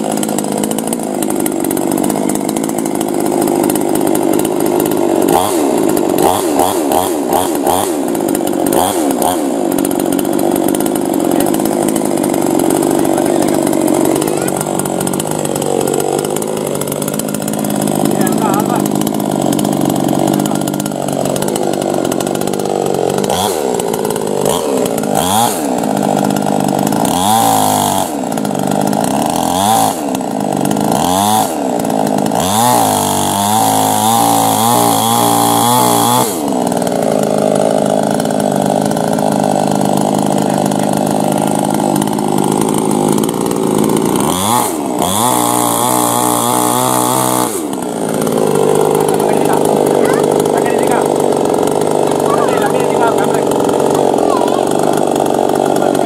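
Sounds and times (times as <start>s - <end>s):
chainsaw cutting log: 0.0s - 56.0s
chainsaw revving: 0.0s - 56.0s.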